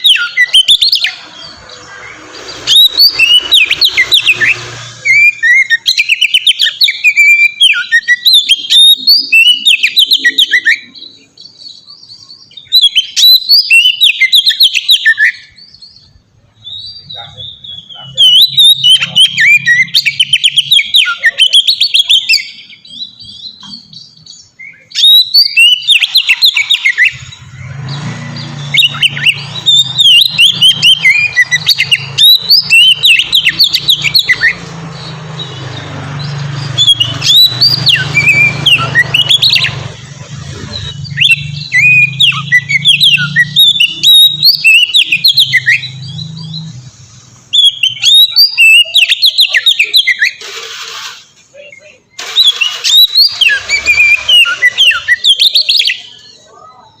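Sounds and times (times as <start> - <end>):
songbird whistling song: 0.0 - 57.0.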